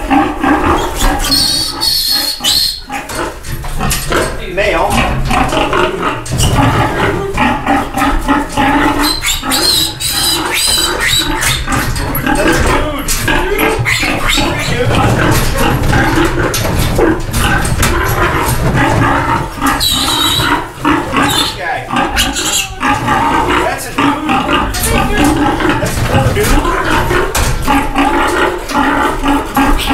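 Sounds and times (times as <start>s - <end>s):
piglets squealing: 0.0s - 4.3s, 4.9s - 26.2s, 26.8s - 29.9s
pig grunting loudly: 0.0s - 29.9s.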